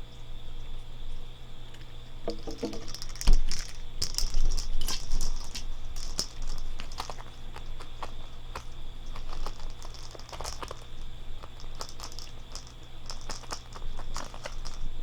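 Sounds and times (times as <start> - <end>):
ball knocking plastic container: 2.2 - 15.0.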